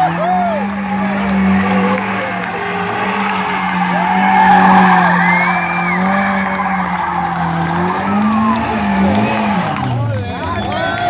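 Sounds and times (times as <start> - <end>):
car engine at high revs: 0.0 - 11.0
tyres skidding and squealing: 0.0 - 11.0.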